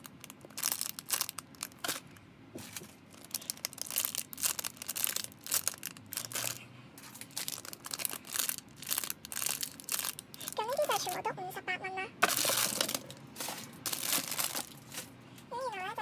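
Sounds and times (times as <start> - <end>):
plastic packaging crinkling: 0.0 - 11.2, 12.2 - 15.2.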